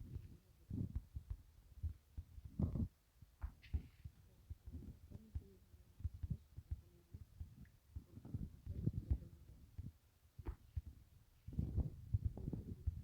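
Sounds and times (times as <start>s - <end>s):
dull low thumps and knocks: 0.0s - 13.0s
soft hiss: 0.0s - 13.0s.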